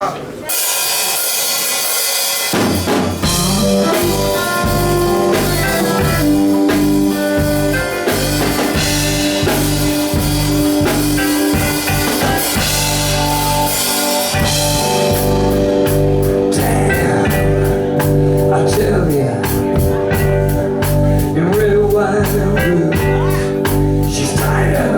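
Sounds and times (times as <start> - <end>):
blues-rock band playing live: 0.5 - 24.9.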